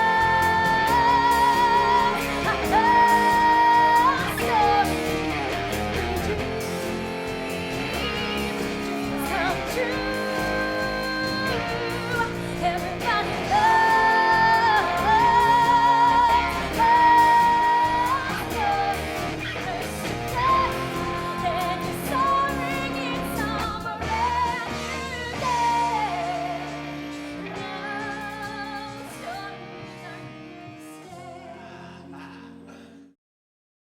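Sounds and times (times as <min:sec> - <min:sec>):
band with guitar: 0:00.0 - 0:31.7
pop song vocals: 0:00.0 - 0:33.1.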